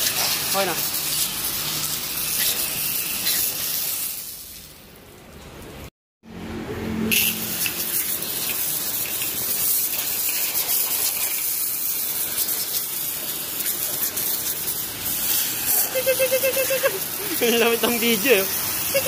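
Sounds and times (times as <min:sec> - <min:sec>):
pressure washer spraying: 0:00.0 - 0:04.7, 0:07.1 - 0:19.0.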